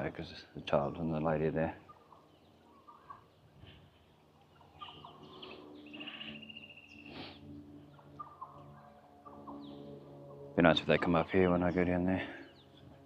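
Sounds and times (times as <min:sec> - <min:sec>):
birds chirping: 0:00.0 - 0:13.0
bird trill: 0:01.8 - 0:13.0.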